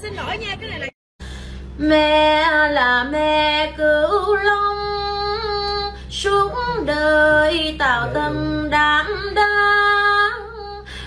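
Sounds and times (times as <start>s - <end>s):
woman singing slow song: 1.8s - 11.0s.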